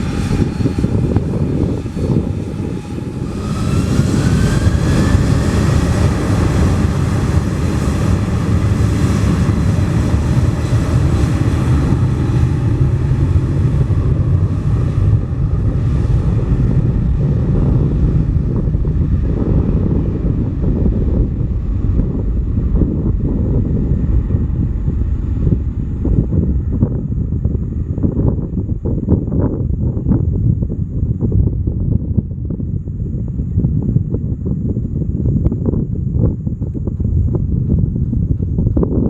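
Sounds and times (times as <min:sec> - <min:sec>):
jet engines rumbling: 0:00.0 - 0:39.0
wind buffeting microphone: 0:00.0 - 0:39.0.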